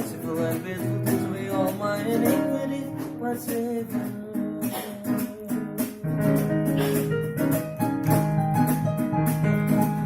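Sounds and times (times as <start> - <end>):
keyboard chords: 0.0 - 10.0
rhythmic shaker or strummed guitar: 0.0 - 10.0.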